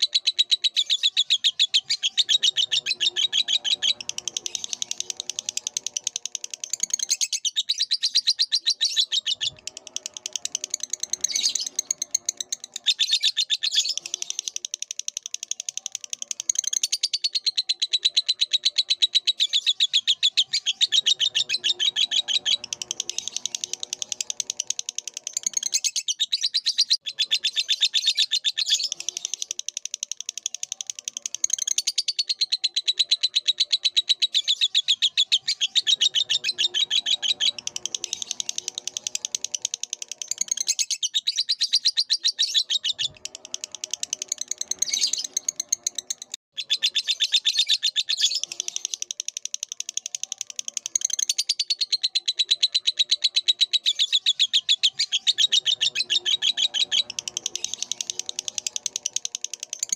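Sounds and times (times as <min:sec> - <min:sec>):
lovebird chattering trill: 0:00.0 - 0:59.9
lower bird chattering: 0:00.0 - 0:59.9.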